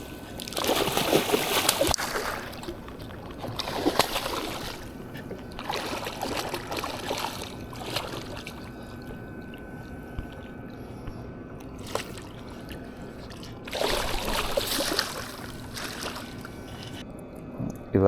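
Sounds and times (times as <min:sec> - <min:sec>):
water splashing against kayak: 0:00.0 - 0:17.0.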